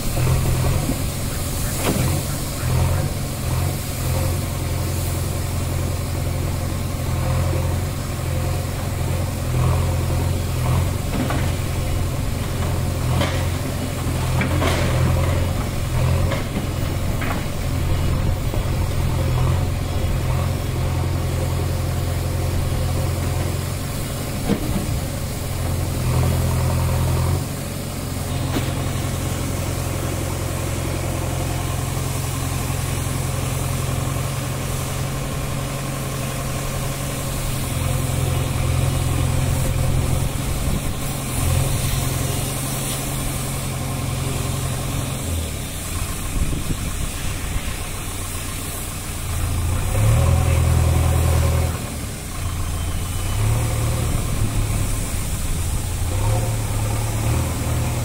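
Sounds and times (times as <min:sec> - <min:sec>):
diesel engine running and revving: 0:00.0 - 0:58.0.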